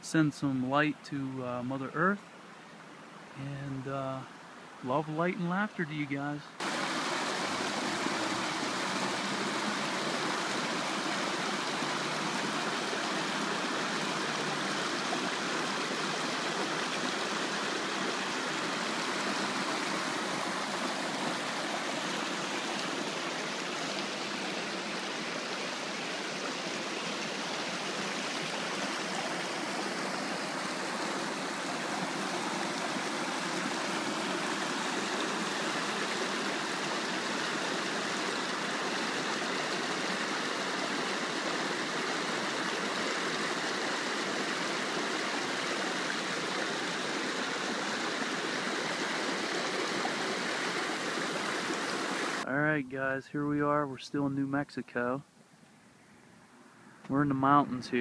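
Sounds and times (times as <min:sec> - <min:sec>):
stream rushing over rocks: 0:00.0 - 0:52.5.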